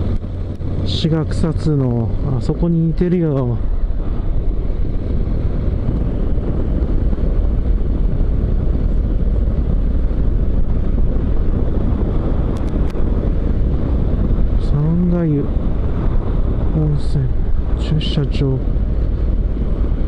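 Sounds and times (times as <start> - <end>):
motorcycle engine drone: 0.0 - 20.0
wind rush on microphone: 0.0 - 20.0.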